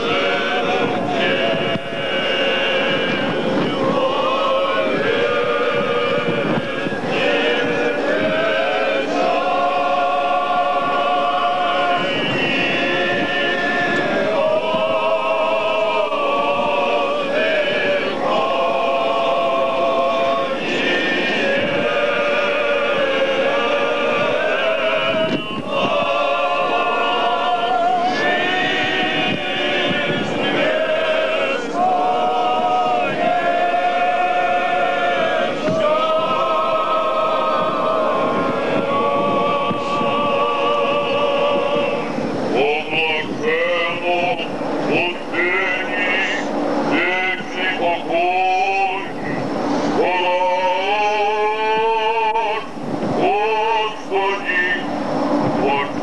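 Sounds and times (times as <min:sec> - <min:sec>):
choir chanting long held notes: 0:00.0 - 0:56.0.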